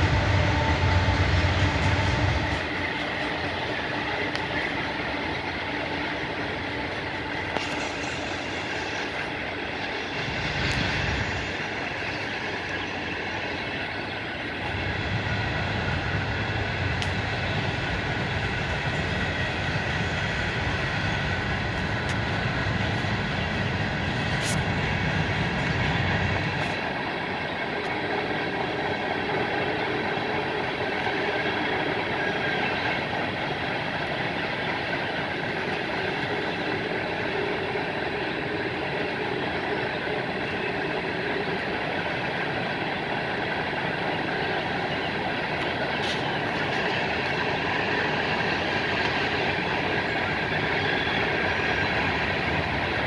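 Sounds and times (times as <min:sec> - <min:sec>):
freight train cars rolling: 0:00.0 - 0:53.0.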